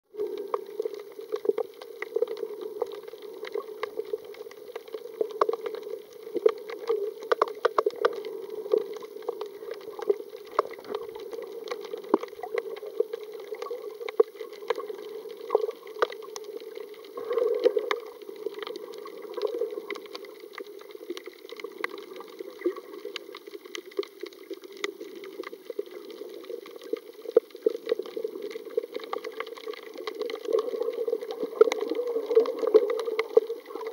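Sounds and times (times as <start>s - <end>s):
muffled underwater noise: 0.1s - 33.9s
sharp clicks and crackles: 0.1s - 33.9s.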